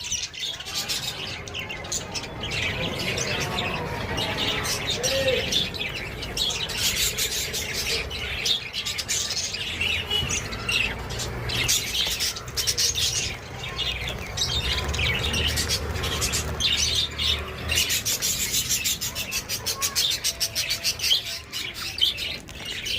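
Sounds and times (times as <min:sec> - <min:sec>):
budgerigars chirping and squawking: 0:00.0 - 0:22.9.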